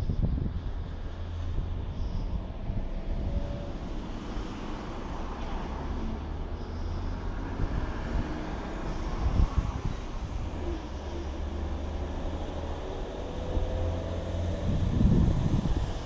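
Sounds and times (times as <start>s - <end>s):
engine rumble with hum: 0.0s - 16.0s.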